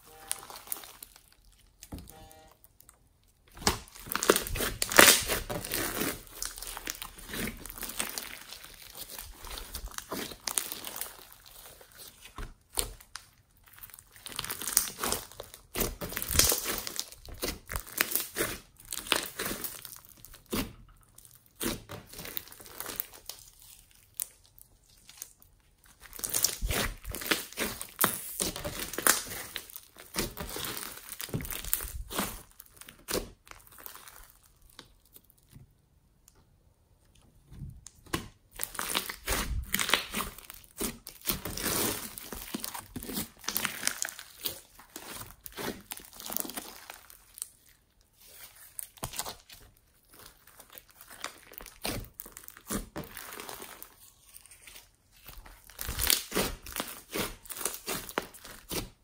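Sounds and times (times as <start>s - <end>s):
slime crackling and popping: 0.1s - 2.0s, 2.6s - 35.6s, 37.8s - 59.0s.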